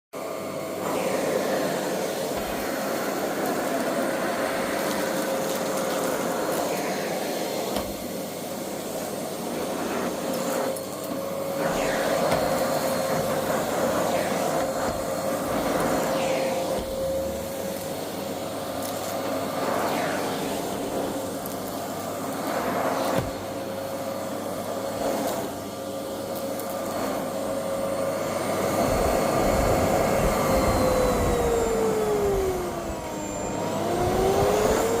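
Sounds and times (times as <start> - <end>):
vacuum cleaner running: 0.2 - 35.0.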